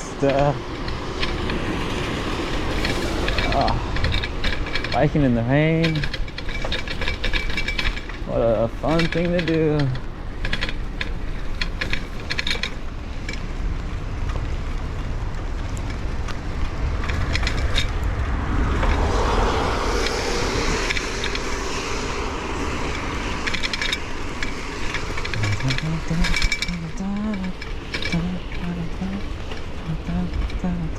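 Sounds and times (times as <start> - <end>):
bicycle fast clicking: 0.0 - 30.9
wind and road rumble: 0.0 - 30.9.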